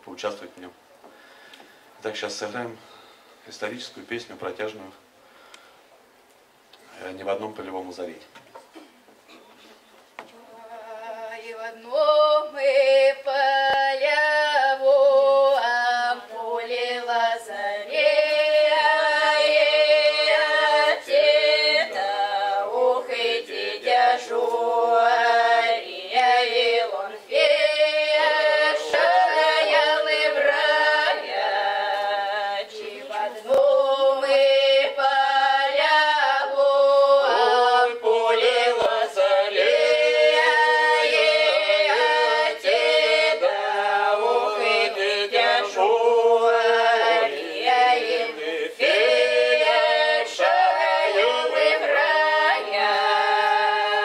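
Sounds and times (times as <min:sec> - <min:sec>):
choir singing a cappella: 0:10.4 - 0:54.0.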